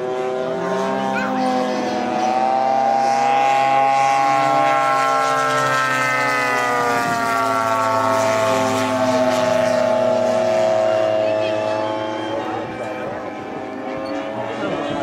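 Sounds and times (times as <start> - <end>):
model airplane engine: 0.0 - 15.0.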